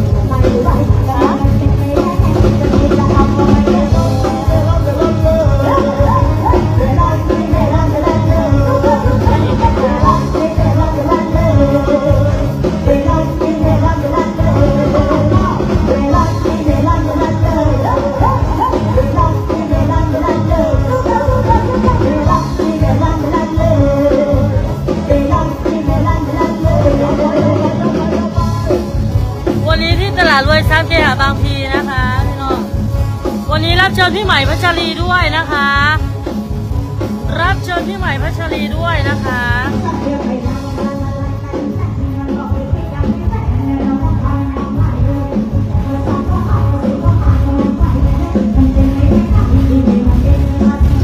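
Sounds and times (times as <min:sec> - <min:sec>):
amplified band music: 0:00.0 - 0:51.0
woman singing into a microphone: 0:00.0 - 0:51.0.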